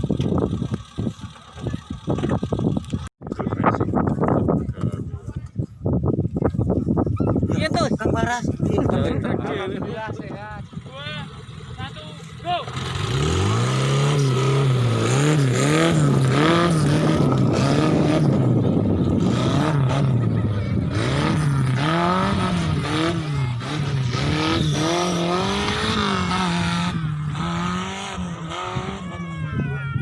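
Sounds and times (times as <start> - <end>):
off-road vehicle engine revving: 0.0 - 3.6, 8.8 - 30.0.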